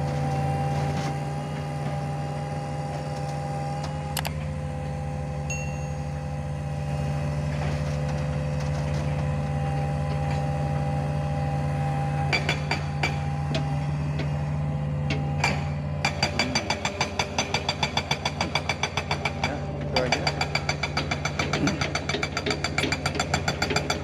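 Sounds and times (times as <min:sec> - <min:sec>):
diesel engine idling: 0:01.2 - 0:24.0.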